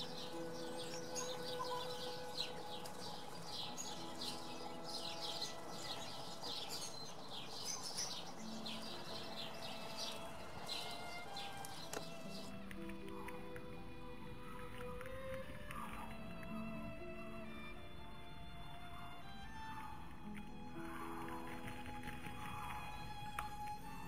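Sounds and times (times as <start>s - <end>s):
sparrows chirping: 0.0s - 24.0s.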